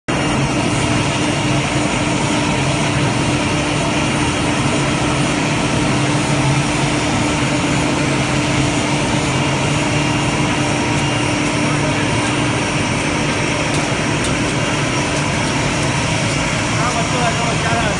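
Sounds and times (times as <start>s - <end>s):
dust extractor rushing: 0.1s - 17.9s.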